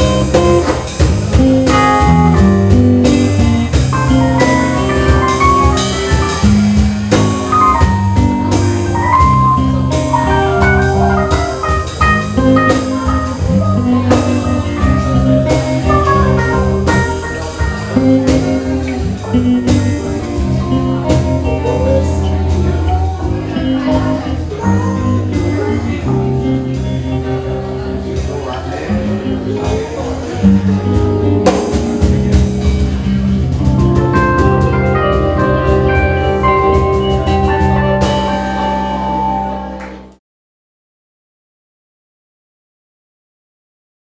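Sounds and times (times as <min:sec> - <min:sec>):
bass line: 0:00.0 - 0:40.2
drum kit beat: 0:00.0 - 0:40.2
lead instrument melody: 0:00.0 - 0:40.2.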